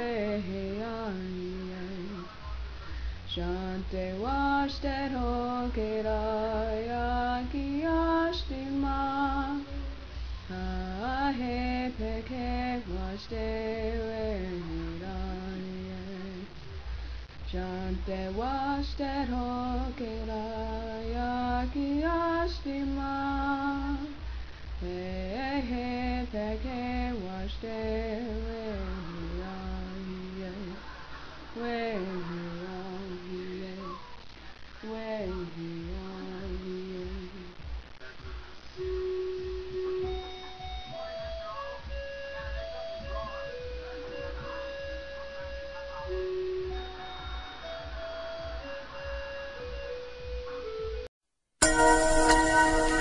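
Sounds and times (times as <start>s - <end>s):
person singing with held notes: 0.0s - 34.2s, 34.8s - 51.0s, 51.6s - 53.0s.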